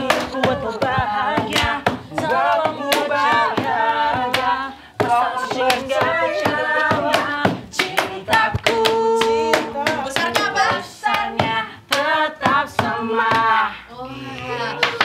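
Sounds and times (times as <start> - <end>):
hand claps: 0.0 - 13.5
voices singing a pop song: 0.0 - 15.0.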